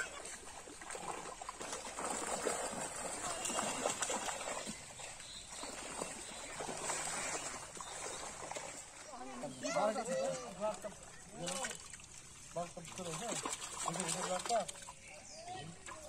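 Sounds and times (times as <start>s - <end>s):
fish splashing in water: 0.0s - 9.4s, 10.1s - 15.0s.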